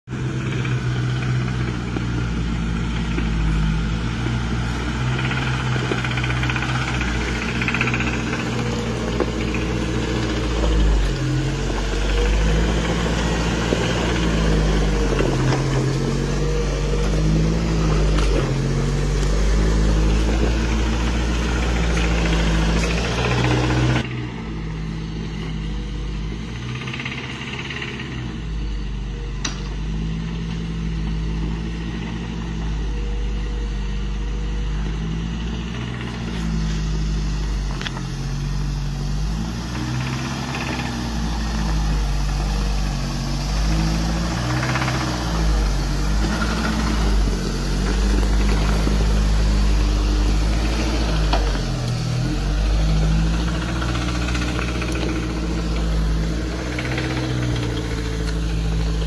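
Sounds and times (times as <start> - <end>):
truck engines revving under load: 0.0 - 59.0.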